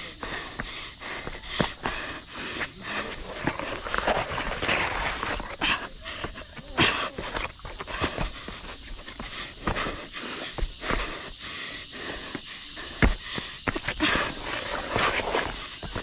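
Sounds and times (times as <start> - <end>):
heavy panting breaths: 0.0 - 16.0
shoes scraping on rock: 0.0 - 16.0.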